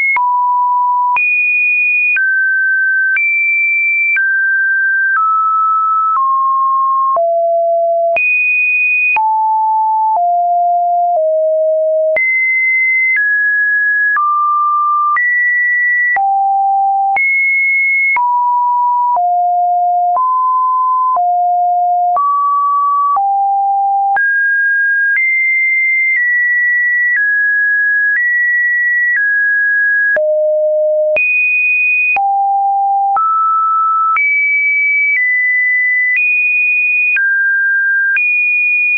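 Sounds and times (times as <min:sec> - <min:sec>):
sine-wave beeps: 0:00.0 - 0:01.3, 0:02.0 - 0:08.3, 0:09.1 - 0:31.2, 0:32.0 - 0:36.2, 0:37.0 - 0:38.9.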